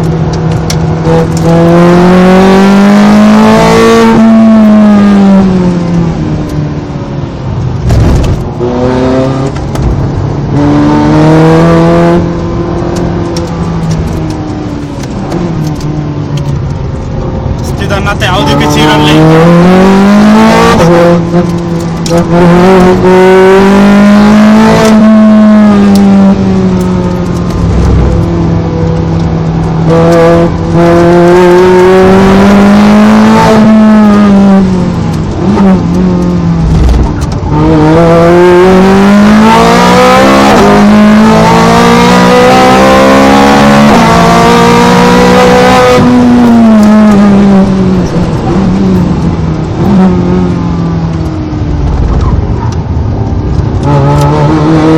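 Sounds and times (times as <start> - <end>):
car engine at full throttle: 0.0 - 54.9.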